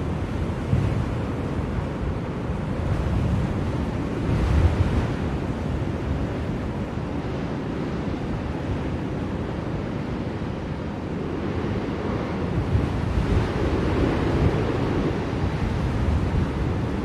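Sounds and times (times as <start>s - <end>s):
blizzard wind gusting: 0.0s - 17.0s.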